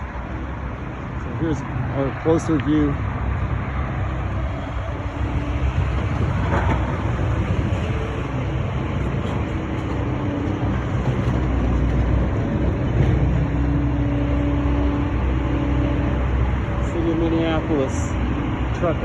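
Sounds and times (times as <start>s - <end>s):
faint engine hum: 0.0s - 19.0s
road traffic rumble: 0.0s - 19.0s.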